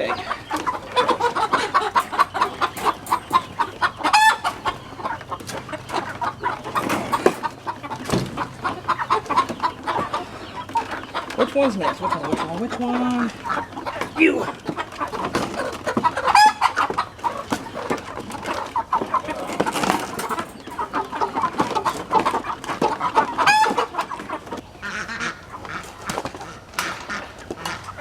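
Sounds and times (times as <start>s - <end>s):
chicken squawks: 0.0s - 28.0s
chickens clucking: 0.0s - 28.0s.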